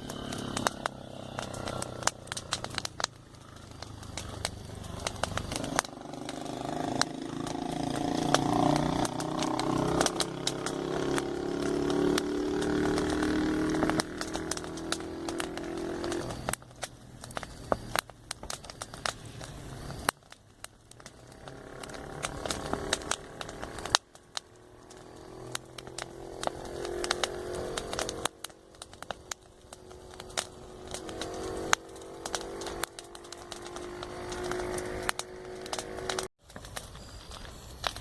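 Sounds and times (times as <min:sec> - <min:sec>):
passing road traffic hum: 0:00.0 - 0:36.3
campfire crackling and popping: 0:00.0 - 0:38.0.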